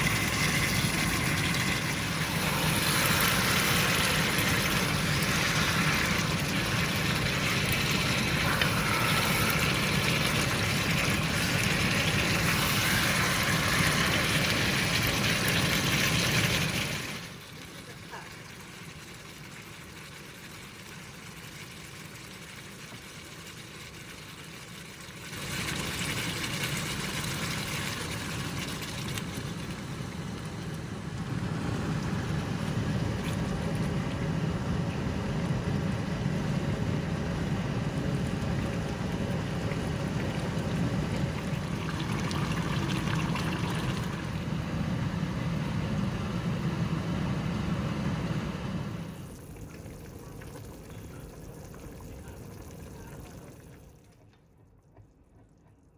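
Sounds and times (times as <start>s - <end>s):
liquid in a cooking pot: 0.0s - 55.9s.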